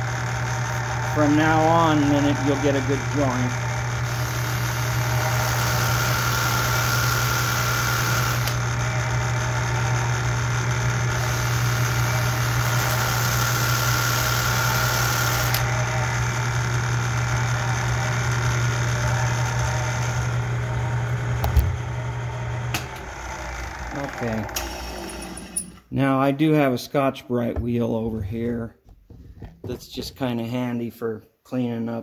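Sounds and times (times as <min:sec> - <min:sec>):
electric motor humming: 0:00.0 - 0:25.7.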